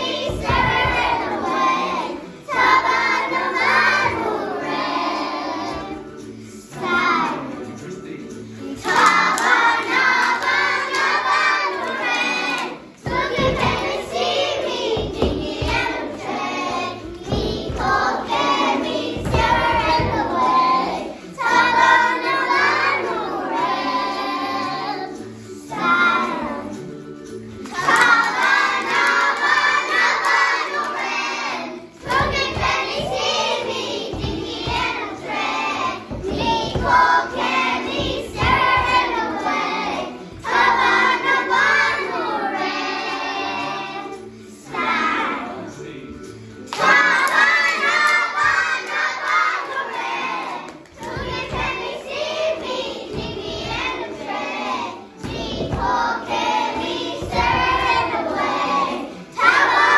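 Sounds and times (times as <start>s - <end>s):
children singing in chorus: 0.0s - 59.9s.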